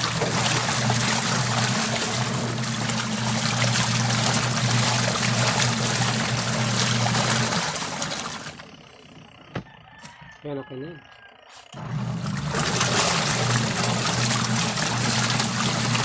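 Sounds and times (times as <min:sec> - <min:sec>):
water swishing: 0:00.0 - 0:08.8, 0:11.8 - 0:16.0
washing machine motor hum: 0:00.0 - 0:10.5, 0:11.7 - 0:16.0.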